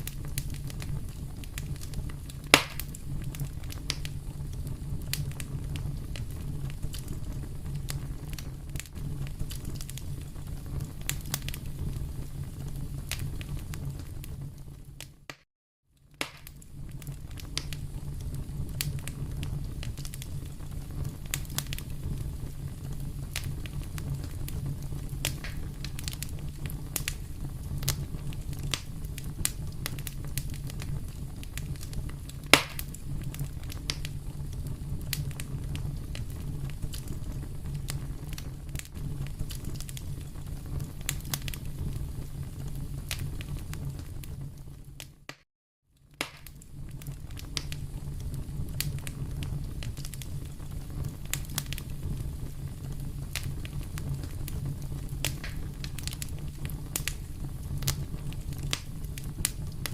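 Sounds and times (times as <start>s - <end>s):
loud pop from fire: 0.0s - 14.4s, 16.1s - 45.4s, 46.1s - 59.9s
wood fire crackling: 0.0s - 15.4s, 16.0s - 45.4s, 46.0s - 59.9s.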